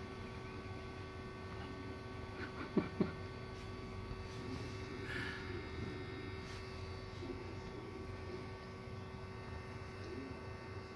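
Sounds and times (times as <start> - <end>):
electrical hum: 0.0 - 10.9.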